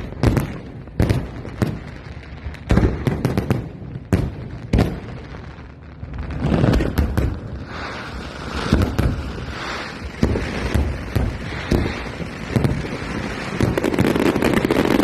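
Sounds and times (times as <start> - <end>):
fireworks bangs and booms: 0.0 - 15.0
fireworks crackle: 0.0 - 15.0.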